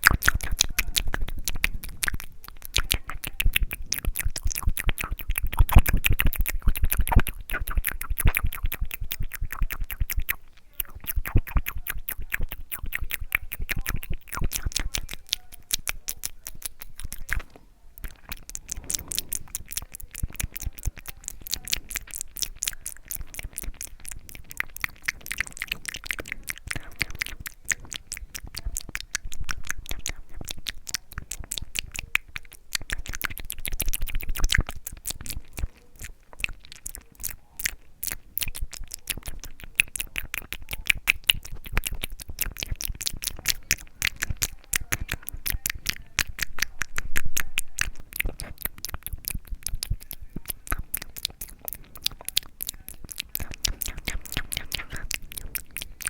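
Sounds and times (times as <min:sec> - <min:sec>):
wet mouth clicks and smacks: 0:00.0 - 0:56.0.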